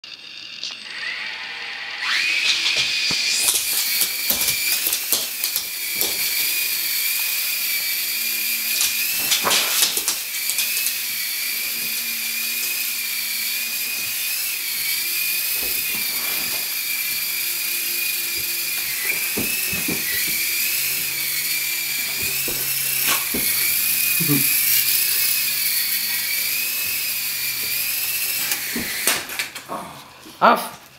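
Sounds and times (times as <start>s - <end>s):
toy helicopter motor whine: 0.1s - 29.7s.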